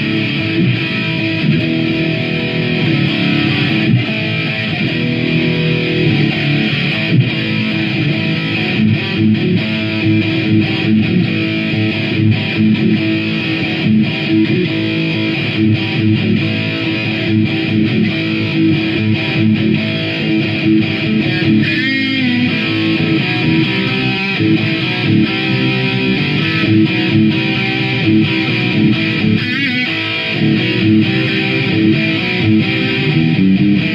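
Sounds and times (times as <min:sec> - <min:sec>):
distorted electric guitar riff: 0:00.0 - 0:33.9.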